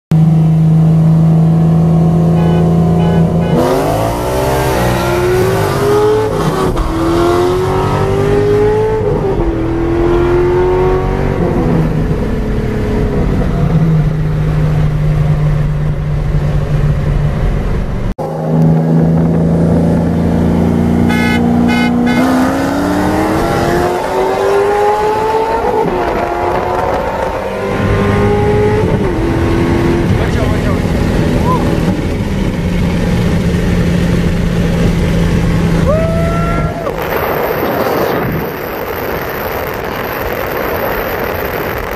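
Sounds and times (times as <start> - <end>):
car engine accelerating through gears: 0.2 - 41.9.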